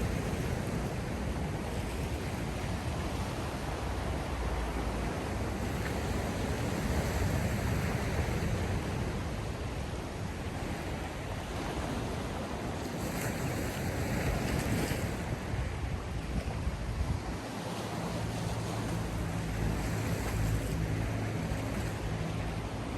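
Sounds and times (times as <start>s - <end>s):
sea waves washing on shore: 0.0s - 22.9s
wind rumbling on microphone: 0.0s - 22.9s.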